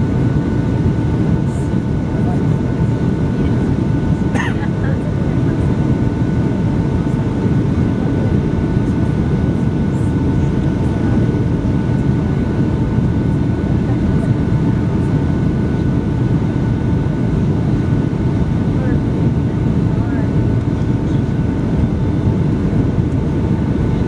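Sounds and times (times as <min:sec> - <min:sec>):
aircraft cabin engine rumble: 0:00.0 - 0:24.0
faint steady whine: 0:00.0 - 0:24.0.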